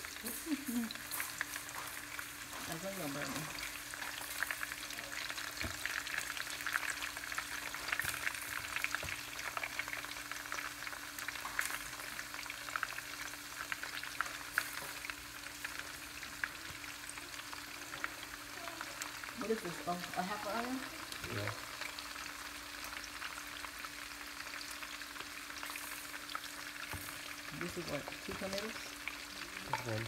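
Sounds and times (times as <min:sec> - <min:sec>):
onion rings frying in oil: 0:00.0 - 0:30.0.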